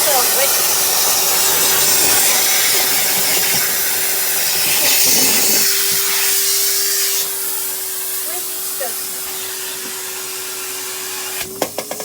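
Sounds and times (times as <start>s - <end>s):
motor whine: 0.0s - 11.6s
vacuum cleaner airflow rush: 0.0s - 12.0s.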